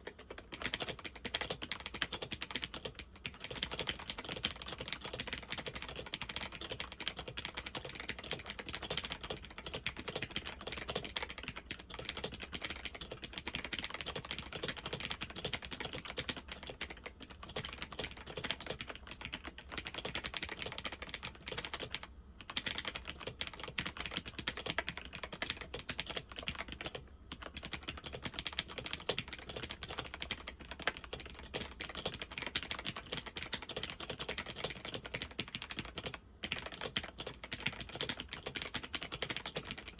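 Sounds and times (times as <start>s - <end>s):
fast typing on laptop keyboard: 0.0s - 39.9s.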